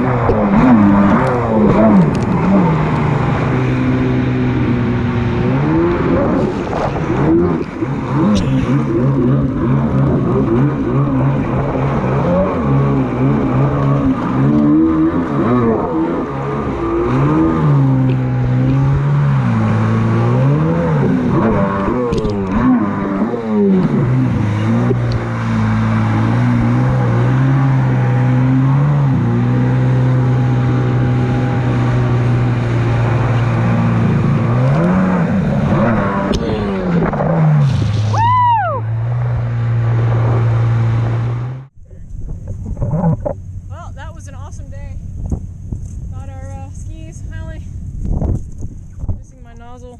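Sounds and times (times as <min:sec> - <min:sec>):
jet ski engine running: 0:00.0 - 0:49.9
wind: 0:00.0 - 0:49.9.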